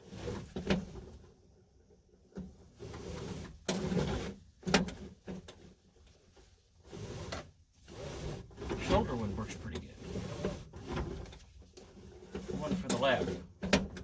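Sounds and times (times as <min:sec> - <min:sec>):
seatbelt webbing sliding whir: 0:00.0 - 0:01.2, 0:02.6 - 0:05.8, 0:06.8 - 0:14.0.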